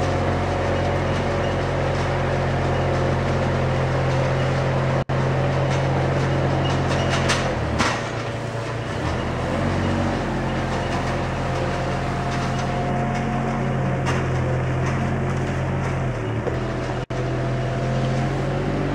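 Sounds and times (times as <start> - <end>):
loader engine running: 0.0 - 18.9.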